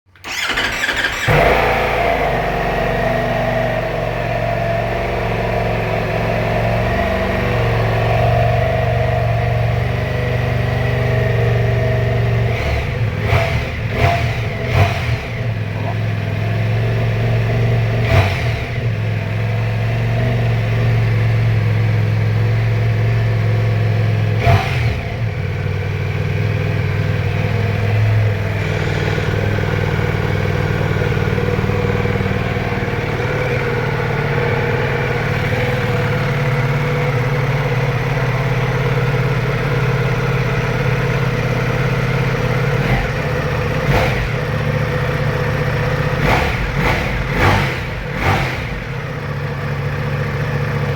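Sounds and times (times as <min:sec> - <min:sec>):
motorcycle engine running: 0:00.2 - 0:50.9.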